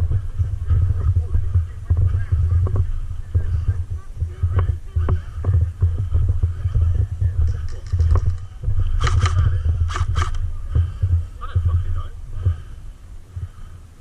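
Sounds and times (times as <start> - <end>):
rumbling and knocking on microphone: 0.0 - 13.8.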